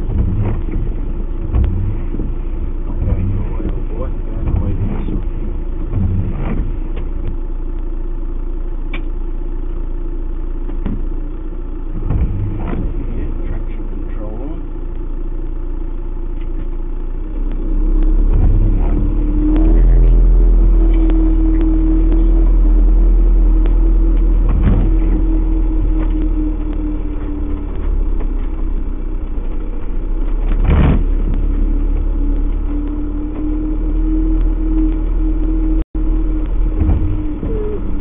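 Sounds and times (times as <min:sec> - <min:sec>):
engine rumbling under load: 0:00.0 - 0:38.0.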